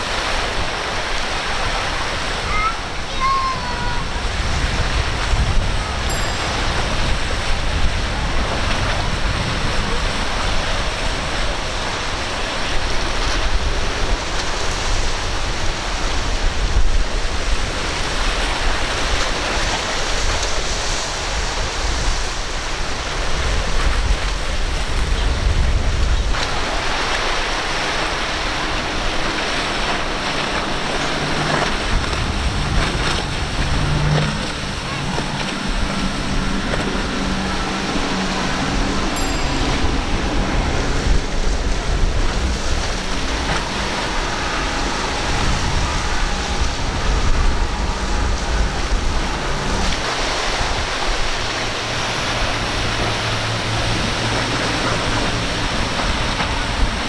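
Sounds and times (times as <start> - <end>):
faint outboard motors: 0.0 - 57.0
low steady engine hum: 0.0 - 57.0
waves breaking: 0.0 - 57.0
wind buffeting microphone: 0.0 - 57.0.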